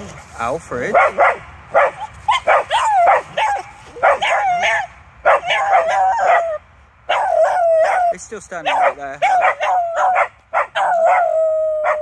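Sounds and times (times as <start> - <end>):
dogs barking and whining: 0.9 - 12.0.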